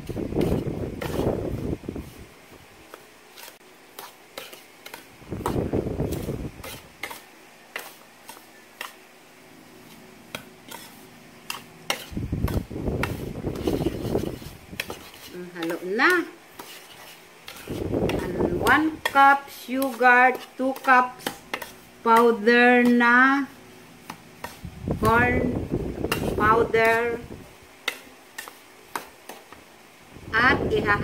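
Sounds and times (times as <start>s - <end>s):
spoon stirring in ceramic bowl: 0.0s - 9.0s, 9.8s - 23.2s, 24.0s - 29.6s.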